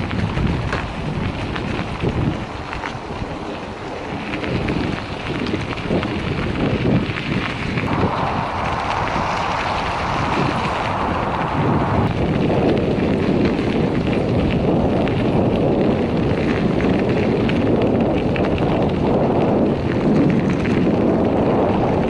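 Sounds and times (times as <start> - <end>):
tyres crackling on gravel: 0.0 - 22.0
wind buffeting microphone: 0.0 - 22.0.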